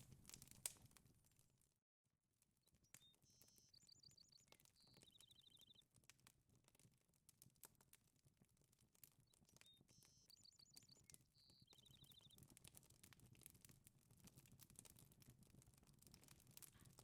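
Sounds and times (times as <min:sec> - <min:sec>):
small ticks: 0:02.7 - 0:08.0, 0:08.6 - 0:17.0.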